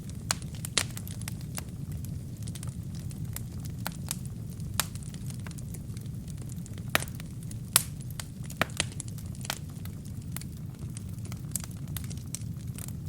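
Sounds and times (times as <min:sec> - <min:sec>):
burning wood crackling and popping: 0:00.0 - 0:13.0
fire flames rumbling: 0:00.0 - 0:13.0.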